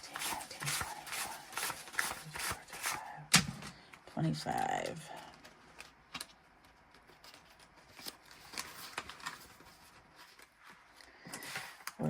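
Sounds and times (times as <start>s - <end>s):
paper cash rustling and clicking: 0.0s - 4.0s, 4.6s - 12.0s.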